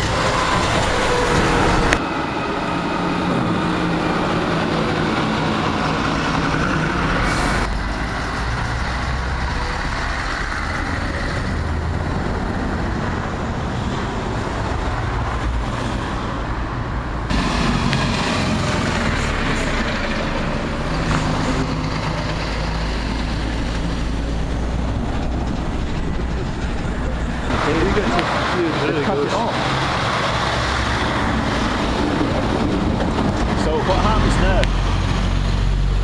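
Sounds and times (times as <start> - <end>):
diesel lorry engines: 0.0 - 36.0
tyres on road: 0.0 - 36.0.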